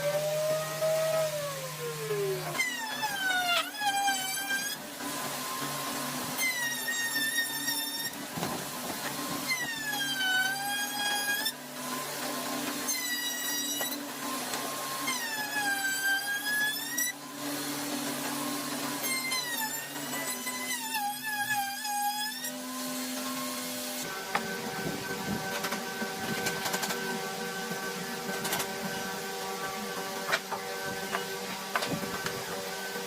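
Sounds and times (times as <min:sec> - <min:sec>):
power tool whining cutting wood: 0:00.0 - 0:33.0.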